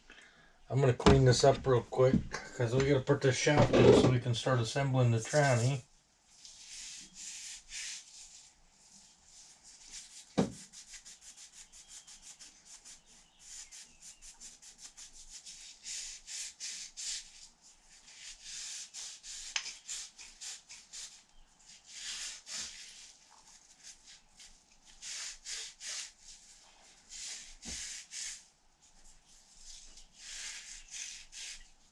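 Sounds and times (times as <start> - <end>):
hand rubbing strokes: 5.1 - 31.9.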